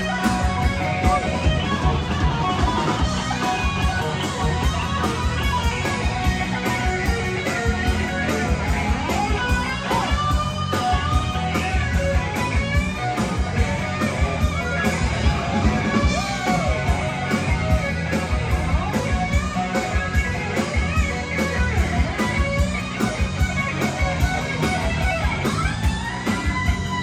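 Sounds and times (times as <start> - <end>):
band music with electric guitar: 0.0 - 27.0.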